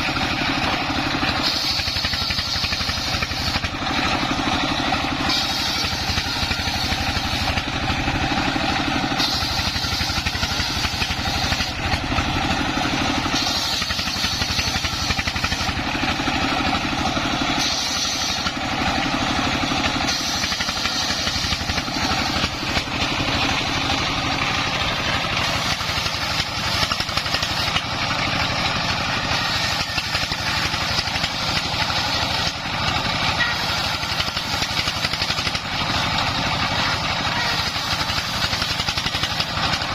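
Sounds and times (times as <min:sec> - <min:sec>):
circular saw cutting wood: 0:00.0 - 0:39.9
diesel engine running: 0:00.0 - 0:39.9.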